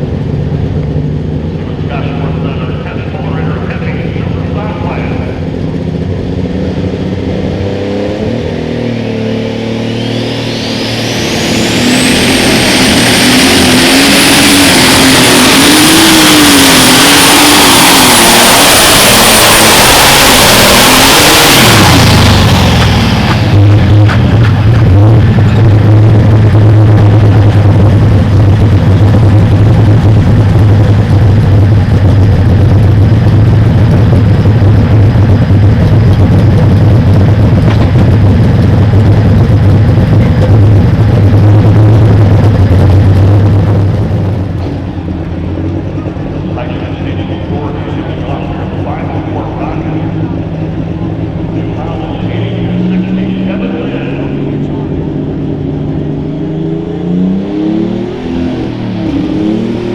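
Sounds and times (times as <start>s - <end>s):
high turbo whine: 0.0s - 59.9s
tractor engine at full throttle: 0.0s - 59.9s.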